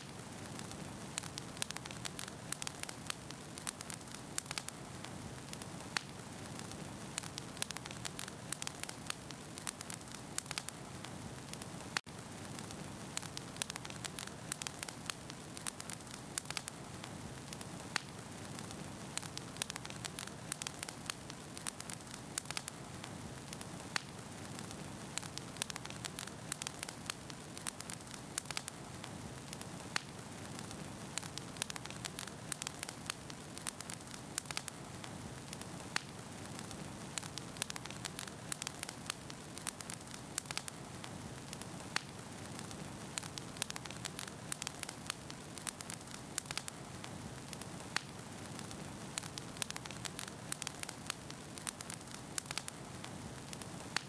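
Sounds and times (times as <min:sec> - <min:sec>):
fire crackling: 0:00.0 - 0:54.0
low hiss: 0:00.0 - 0:54.0.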